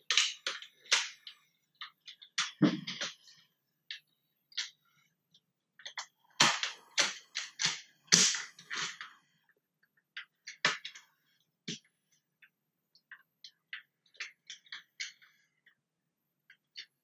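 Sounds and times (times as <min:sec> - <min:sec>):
plastic parts clicking and knocking: 0:00.0 - 0:17.0.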